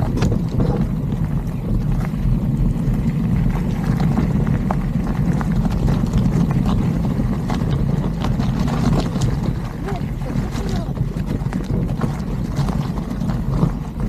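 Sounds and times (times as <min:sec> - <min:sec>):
bike rattling and clicking: 0:00.0 - 0:14.0
tyres rumbling over loose rocks: 0:00.0 - 0:14.0.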